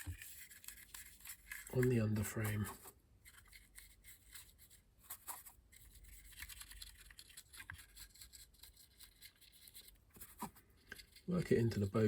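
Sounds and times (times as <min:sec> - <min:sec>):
paintbrush bristles scratching: 0:00.0 - 0:12.0.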